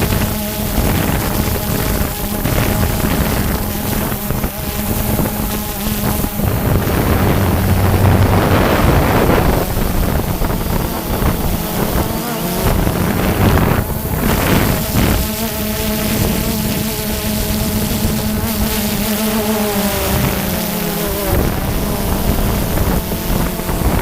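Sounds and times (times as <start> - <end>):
drone propellers buzzing: 0.0 - 24.0
wind on microphone: 0.0 - 24.0.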